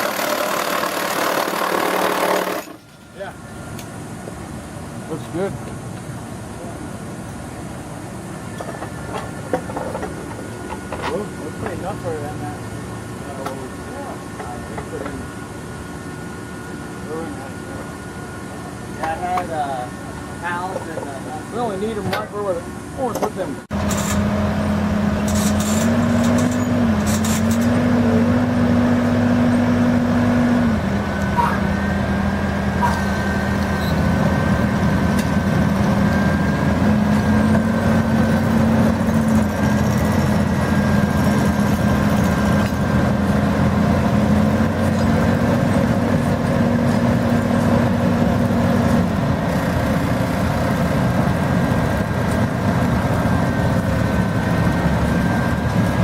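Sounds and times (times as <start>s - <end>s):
heavy vehicle engine running: 0.0s - 56.0s
thin steady whine: 0.0s - 56.0s.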